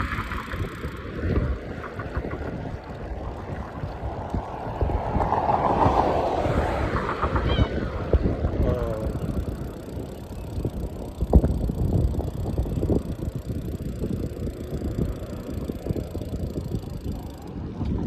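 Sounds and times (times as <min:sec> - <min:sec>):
bicycle rattling and knocking: 0:00.0 - 0:18.0
wind buffeting microphone: 0:00.0 - 0:18.0.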